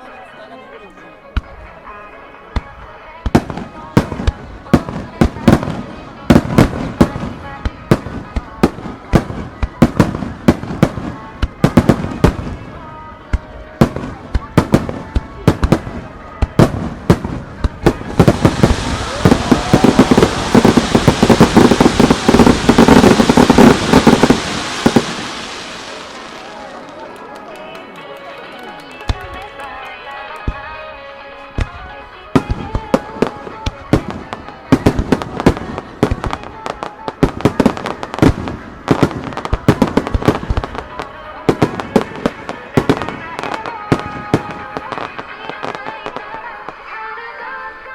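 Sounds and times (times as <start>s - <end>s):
fireworks bursts and crackling: 2.5s - 30.9s, 31.5s - 47.3s.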